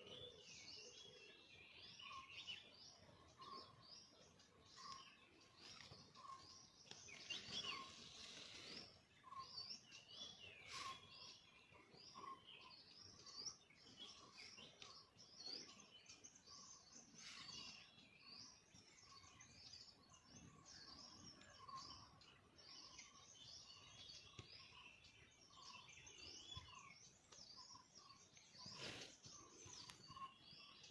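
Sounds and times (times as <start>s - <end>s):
birds chirping and trilling: 0.0s - 30.9s.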